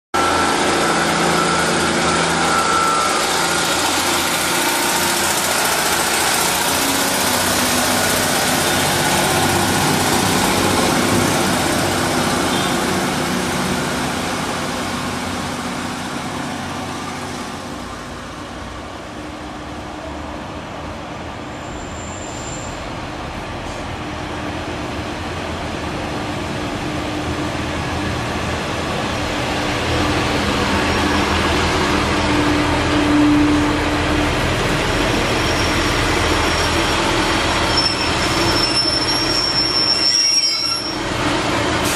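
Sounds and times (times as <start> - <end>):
diesel railbus approaching: 0.2 - 41.9
diesel train running: 0.2 - 41.9.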